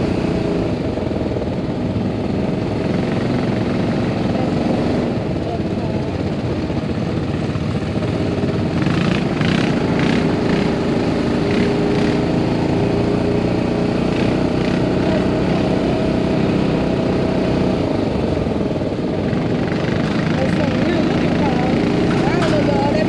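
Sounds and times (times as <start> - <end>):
quad engine running: 0.0 - 23.0.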